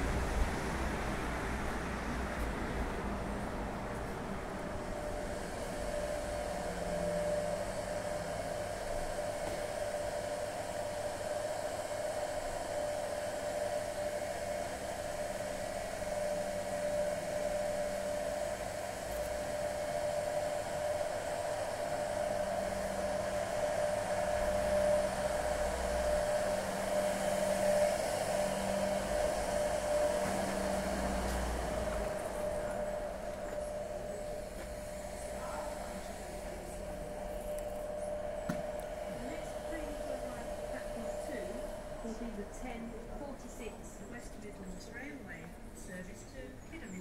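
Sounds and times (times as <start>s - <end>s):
mechanical whirring hum: 0.0s - 47.0s.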